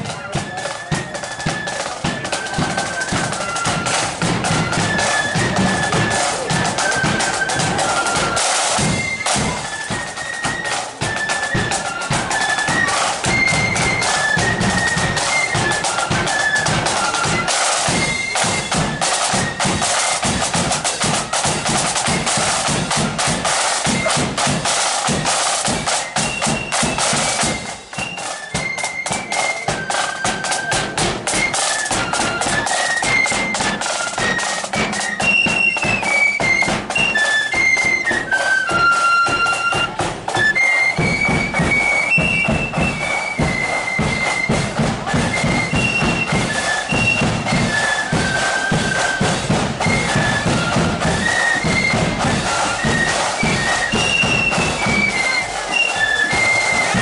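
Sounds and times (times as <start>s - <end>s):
shrill flute melody: 0.0s - 57.0s
snare drum rolls: 0.0s - 57.0s.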